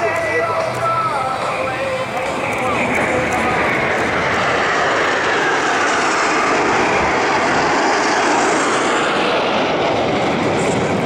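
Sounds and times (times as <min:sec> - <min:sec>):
jets flying past: 0:00.0 - 0:11.0.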